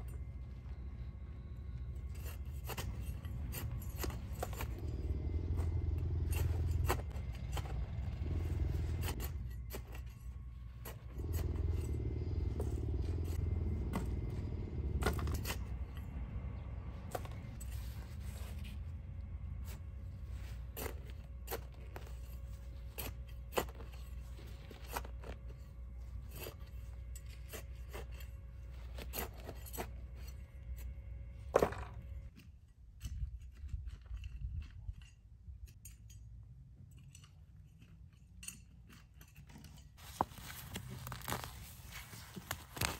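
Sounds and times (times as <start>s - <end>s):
hand tool scraping garden soil: 0.0s - 31.0s, 37.1s - 42.9s.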